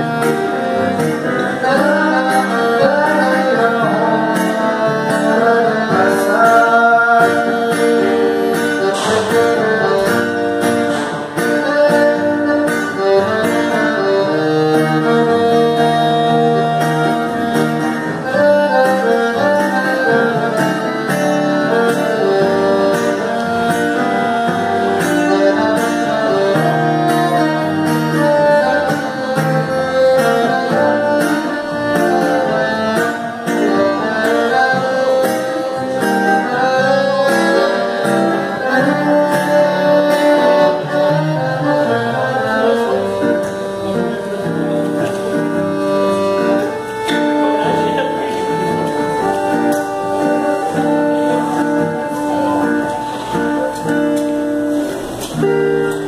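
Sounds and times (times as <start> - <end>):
accordion sustained chords: 0.0 - 56.0
plucked acoustic guitar: 0.0 - 56.0.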